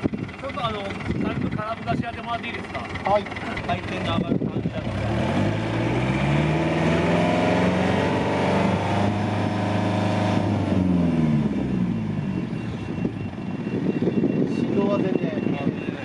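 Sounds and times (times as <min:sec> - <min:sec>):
boat diesel engine revving: 0:00.0 - 0:13.9.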